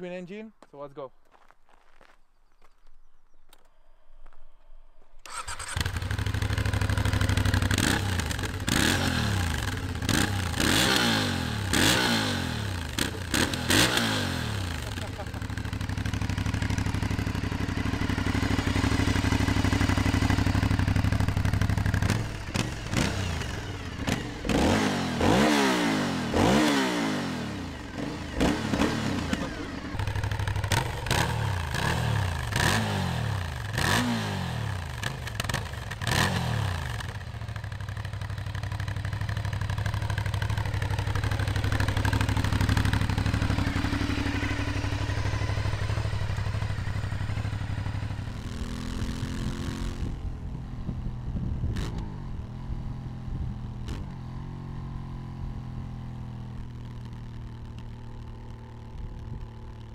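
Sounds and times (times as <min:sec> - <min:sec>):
motorcycle engine idling and revving: 0:02.4 - 0:59.9.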